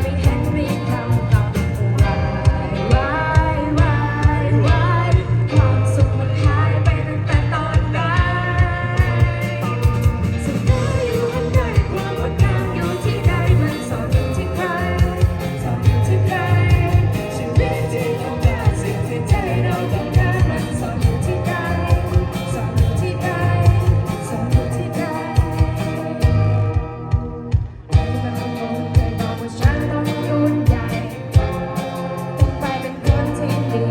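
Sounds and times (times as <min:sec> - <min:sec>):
person singing: 0:00.0 - 0:27.0, 0:27.9 - 0:33.9
pop-rock band playing: 0:00.0 - 0:33.9.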